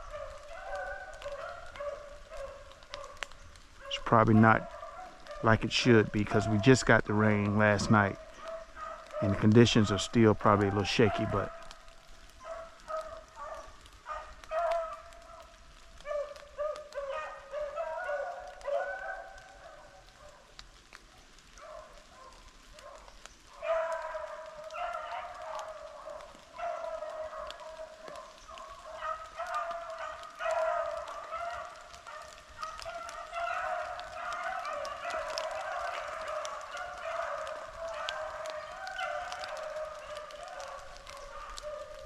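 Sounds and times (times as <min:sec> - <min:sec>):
beagles baying: 0:00.0 - 0:42.0.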